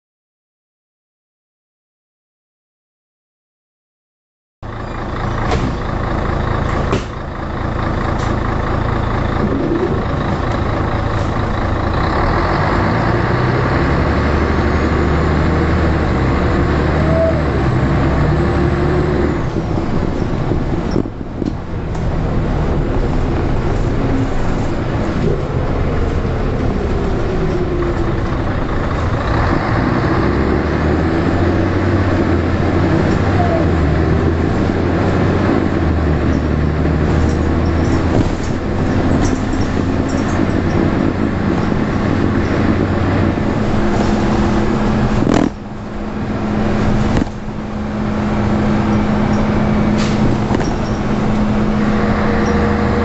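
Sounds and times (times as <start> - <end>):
bus diesel engine working hard: 4.6 - 53.0.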